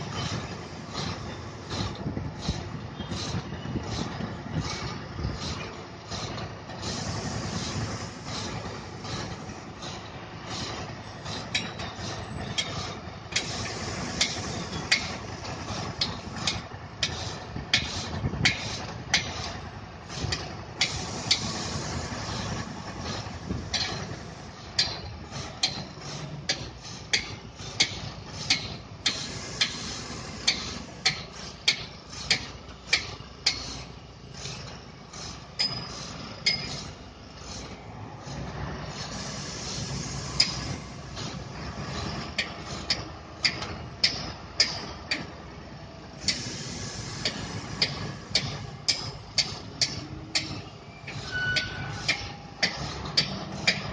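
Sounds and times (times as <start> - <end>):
crane engine running: 0.0 - 53.9.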